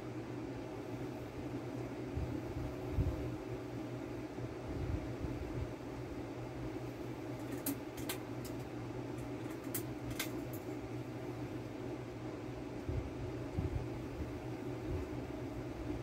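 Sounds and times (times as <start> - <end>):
air conditioner running: 0.0 - 16.0
ceiling fan humming: 0.0 - 16.0.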